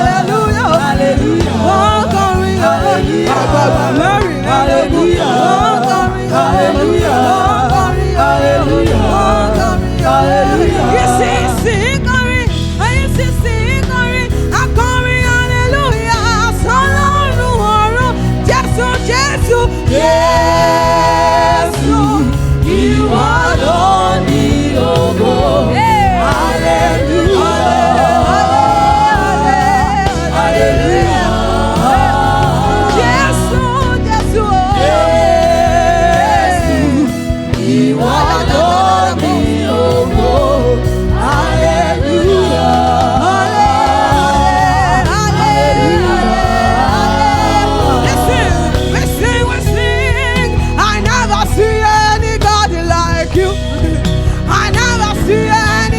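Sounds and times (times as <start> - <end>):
band with bass and drums: 0.0 - 55.9
voices singing together: 0.0 - 55.9.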